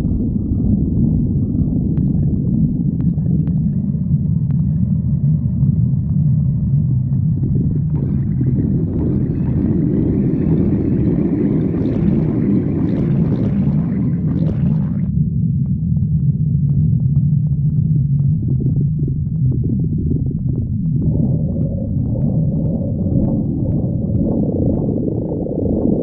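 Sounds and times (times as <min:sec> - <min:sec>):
stomach growling: 0:00.0 - 0:15.2, 0:16.5 - 0:26.0.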